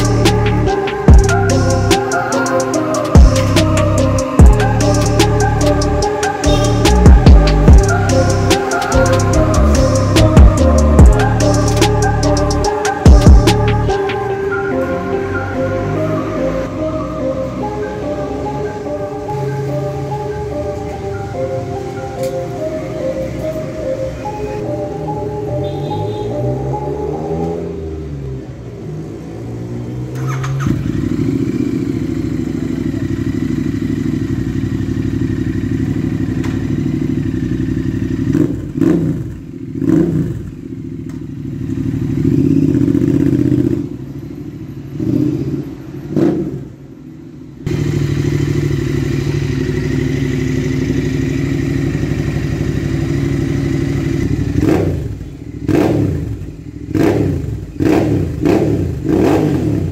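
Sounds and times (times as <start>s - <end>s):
motorcycle engine revving: 0.0s - 14.2s, 24.3s - 46.8s, 47.7s - 59.9s.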